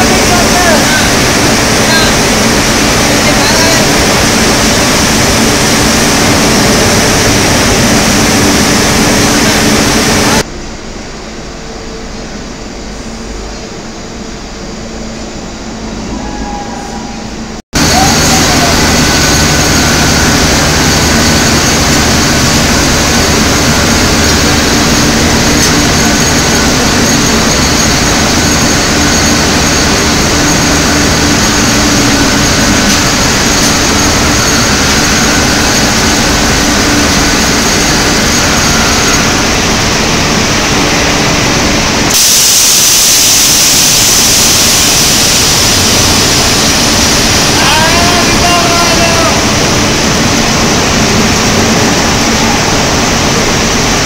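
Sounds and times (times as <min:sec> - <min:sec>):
furnace rushing roar: 0:00.0 - 0:54.0.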